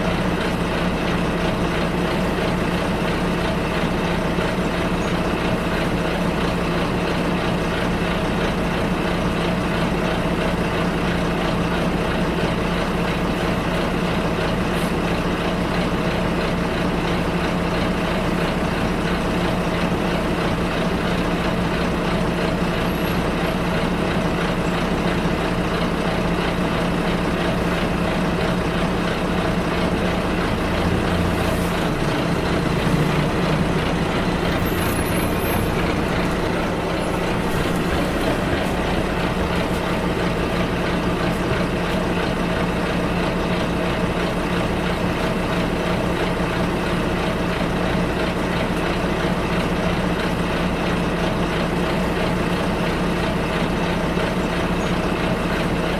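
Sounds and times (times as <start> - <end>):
bus engine running: 0.0 - 55.9
road and cabin rumble: 0.0 - 55.9.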